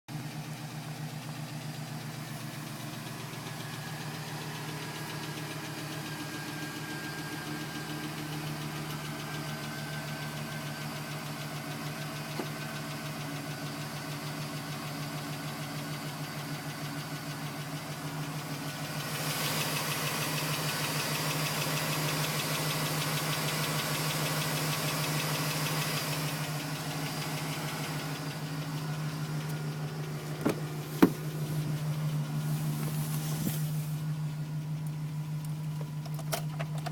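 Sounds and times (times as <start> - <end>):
truck engine idling with knock: 0.2 - 36.9.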